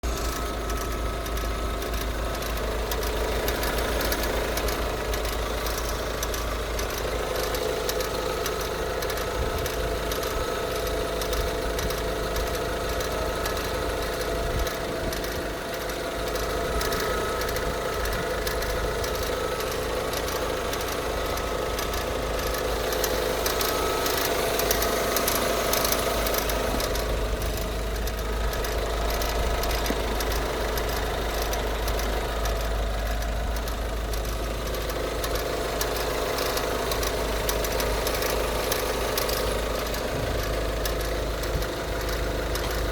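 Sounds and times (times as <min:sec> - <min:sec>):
engine running steadily: 0:00.0 - 0:42.9
fast even ticking: 0:00.0 - 0:42.9.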